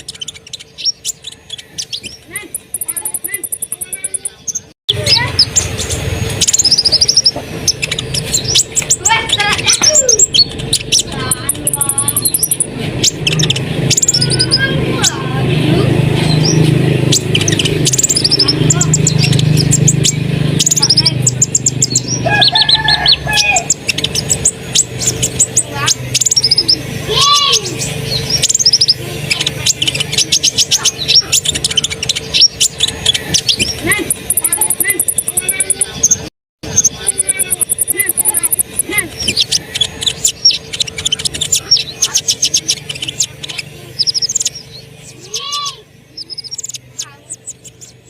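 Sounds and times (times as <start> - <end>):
sunbird singing: 0.0 - 48.0.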